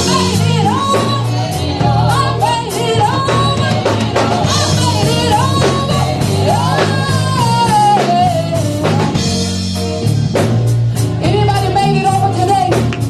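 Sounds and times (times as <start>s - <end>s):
drum kit hits: 0.0s - 11.2s
bass line: 0.0s - 13.0s
gospel band playing: 0.0s - 13.0s.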